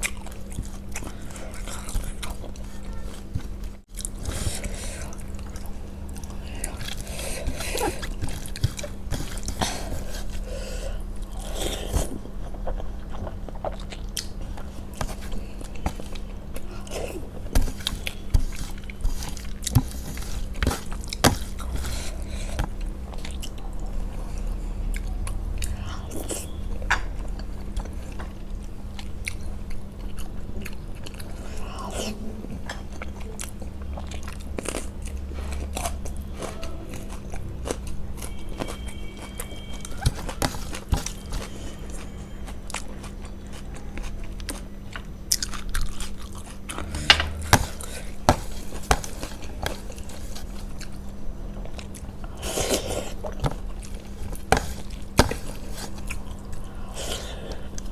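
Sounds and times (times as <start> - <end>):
chewing and biting: 0.0 - 57.9.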